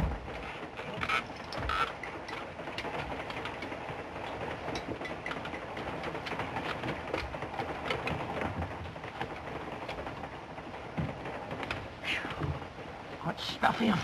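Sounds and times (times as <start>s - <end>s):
railway car rattling: 0.0s - 14.0s.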